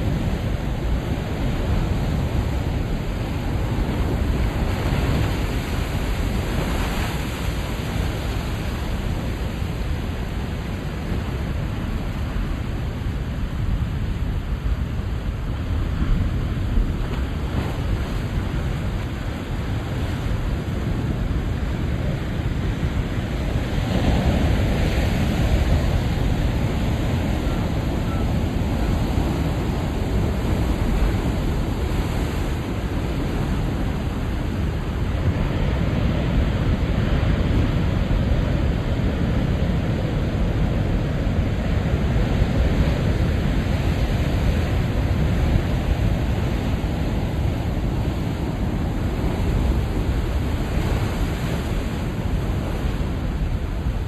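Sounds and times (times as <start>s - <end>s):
surf breaking on rocky shore: 0.0s - 54.0s
wind on microphone: 0.0s - 54.0s.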